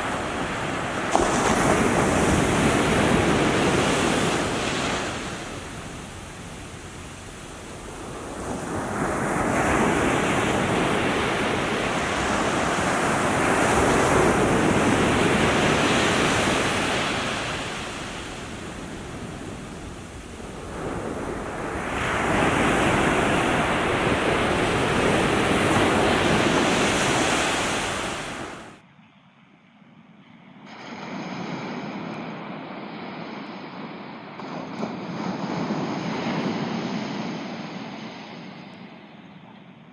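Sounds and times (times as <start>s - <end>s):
small waves washing ashore: 0.0s - 28.8s, 30.7s - 39.5s.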